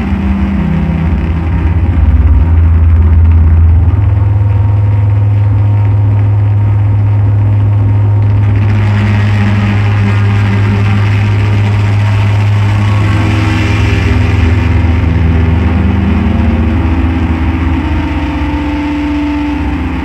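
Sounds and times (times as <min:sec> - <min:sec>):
electronic drone hum: 0:00.0 - 0:20.0.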